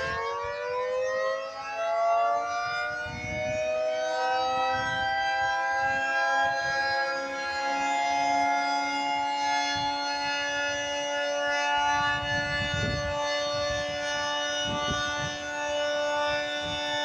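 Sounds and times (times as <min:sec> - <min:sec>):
warning siren steady chord: 0:00.0 - 0:17.0.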